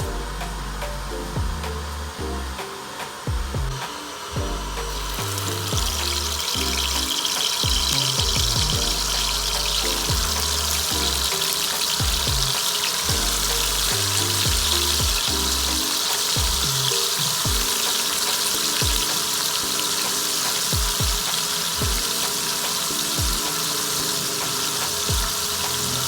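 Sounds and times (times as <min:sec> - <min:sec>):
music with deep bass beat: 0:00.0 - 0:19.3, 0:20.5 - 0:26.0
food sizzling in a pan: 0:03.8 - 0:26.0.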